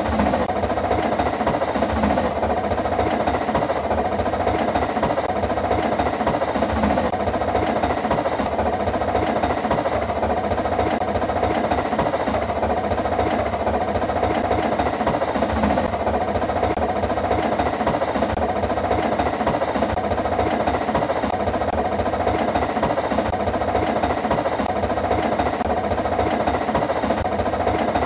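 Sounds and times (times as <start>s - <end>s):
steam train rumbling: 0.0s - 28.0s.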